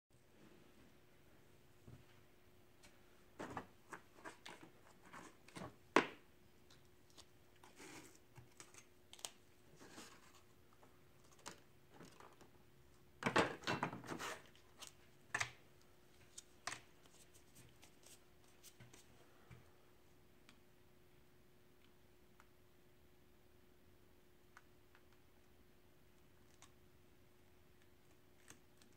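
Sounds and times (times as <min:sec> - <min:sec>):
faint steady hum: 0:00.2 - 0:28.9.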